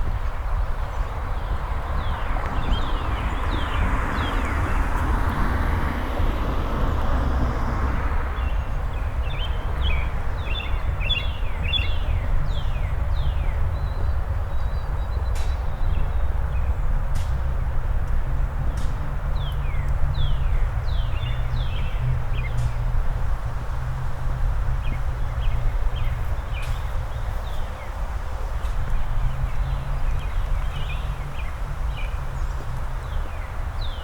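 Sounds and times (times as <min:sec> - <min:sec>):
songbirds chirping: 0:00.1 - 0:34.0.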